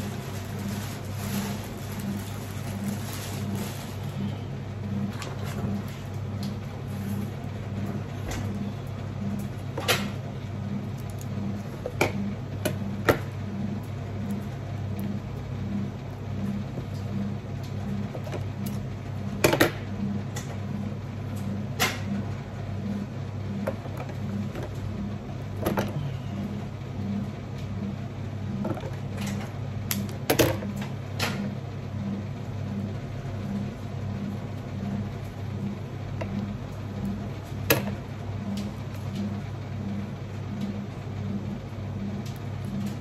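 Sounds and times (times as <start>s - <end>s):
low machine hum with throb: 0.0s - 43.0s.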